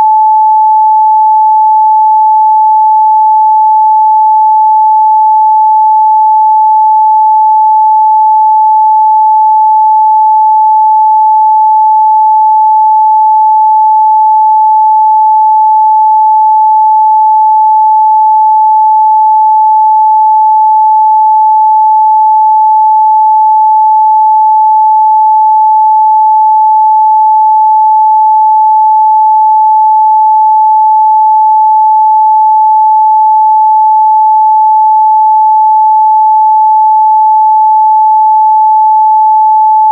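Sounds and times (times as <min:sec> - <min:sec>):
steady sine-wave test tone: 0:00.0 - 0:39.9.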